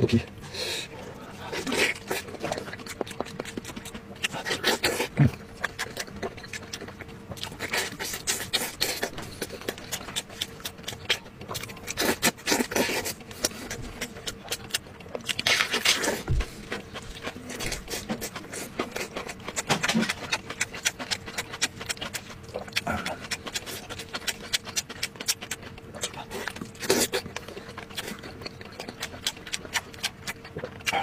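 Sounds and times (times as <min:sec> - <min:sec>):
wet chewing and lip smacking: 0:01.2 - 0:31.0.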